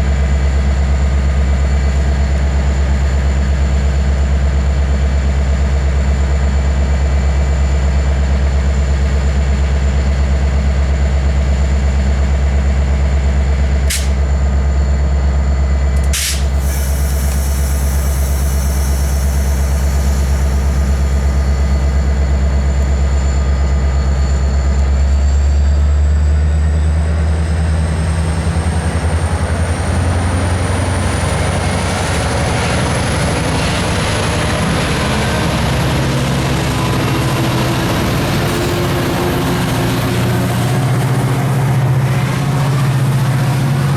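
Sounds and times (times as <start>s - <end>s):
diesel locomotive engine drone: 0.0s - 43.9s.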